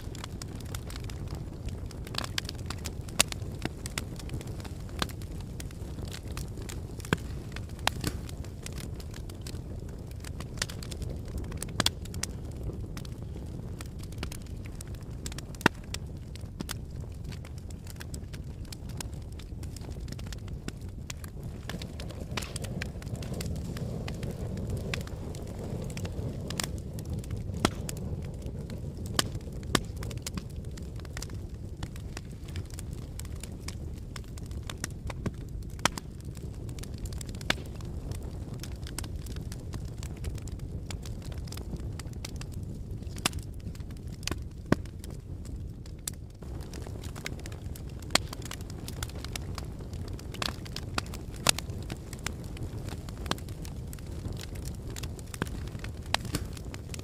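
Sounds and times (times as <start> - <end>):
fire crackling and popping: 0.0 - 57.0
low fire rumble: 0.0 - 57.0.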